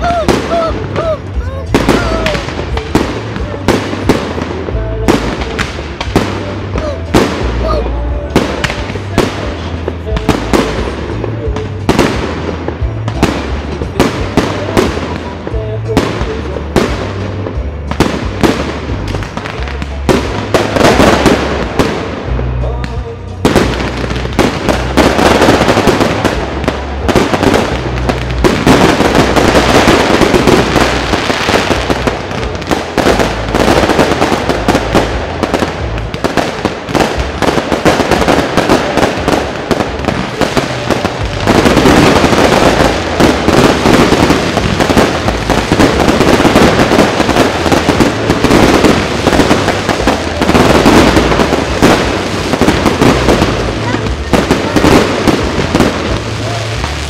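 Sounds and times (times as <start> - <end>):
fireworks bursts and bangs: 0.0 - 57.0
fireworks crackling: 0.0 - 57.0.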